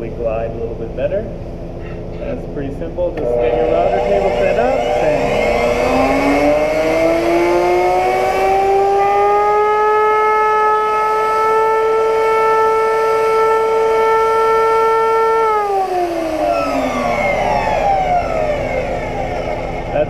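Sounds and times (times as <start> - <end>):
router motor whine: 3.2 - 20.0.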